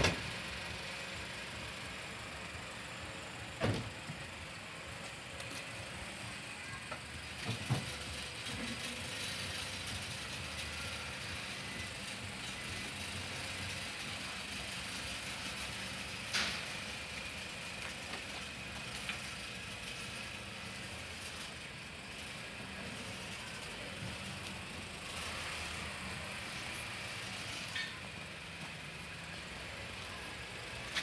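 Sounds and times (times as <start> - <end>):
car engine running at low speed: 0.0 - 31.0.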